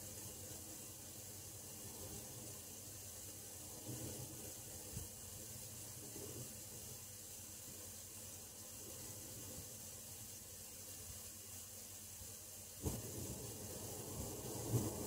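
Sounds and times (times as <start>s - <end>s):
water hissing through pipes: 0.0s - 15.0s.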